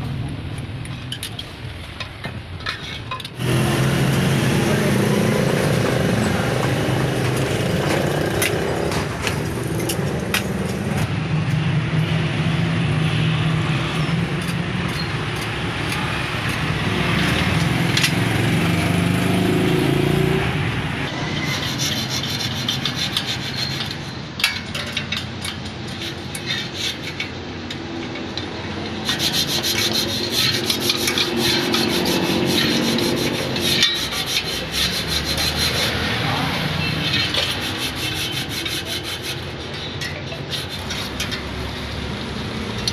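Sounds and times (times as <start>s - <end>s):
metal rubbing and scraping: 2.6s - 11.2s, 13.7s - 42.9s.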